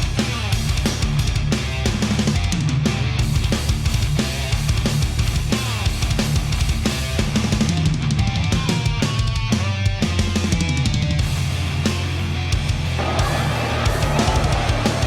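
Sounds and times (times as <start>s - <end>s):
driving drum beat: 0.0s - 15.0s
electric guitar: 0.0s - 15.0s
rock music: 0.0s - 15.0s.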